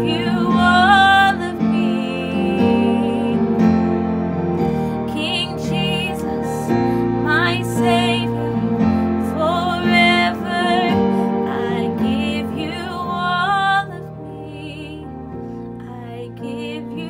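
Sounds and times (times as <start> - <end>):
woman singing gospel song: 0.0 - 3.6, 5.1 - 15.1, 15.8 - 17.0
instrumental backing chords: 0.0 - 17.0.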